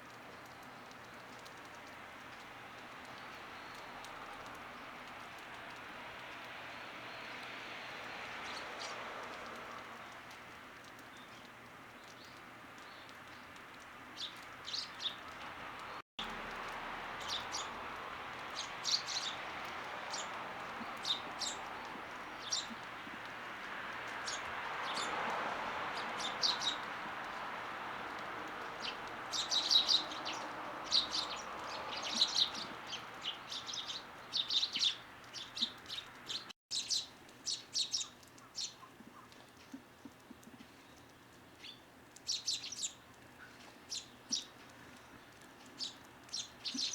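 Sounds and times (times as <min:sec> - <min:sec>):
small birds chirping: 0:00.1 - 0:46.9.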